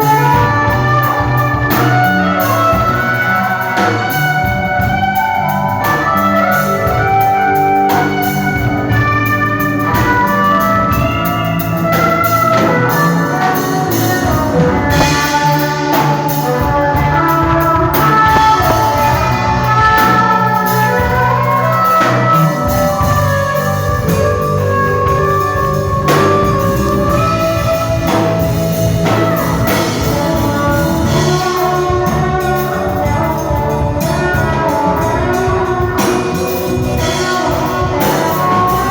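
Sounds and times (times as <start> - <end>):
band playing instrumental music: 0.0 - 38.9.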